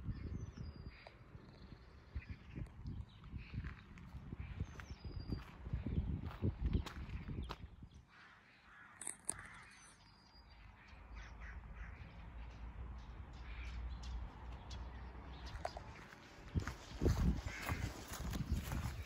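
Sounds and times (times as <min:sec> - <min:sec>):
faint crows cawing: 0:00.8 - 0:02.7, 0:03.3 - 0:19.0.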